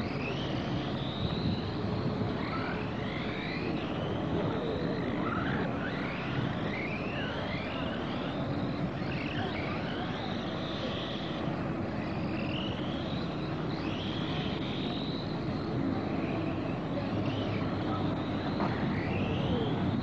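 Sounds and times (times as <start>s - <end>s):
steady rumbling background noise: 0.0s - 20.0s
toy race car motors whining: 0.0s - 20.0s.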